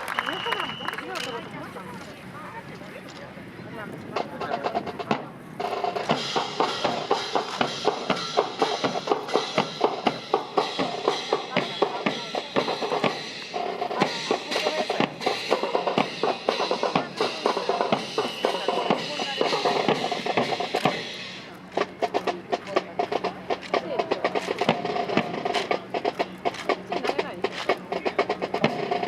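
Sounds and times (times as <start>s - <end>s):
marching band music: 0.0s - 2.7s, 4.1s - 29.0s
snare and bass drum beat: 4.1s - 29.0s.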